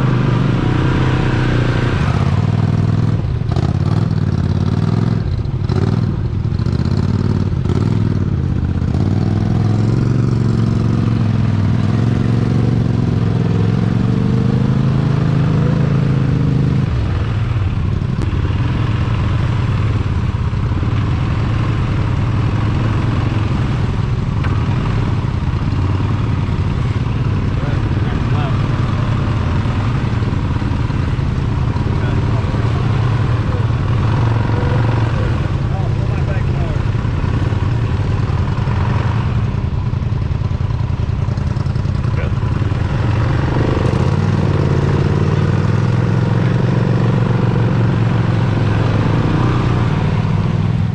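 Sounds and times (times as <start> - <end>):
truck engine running hard: 0.0 - 50.9.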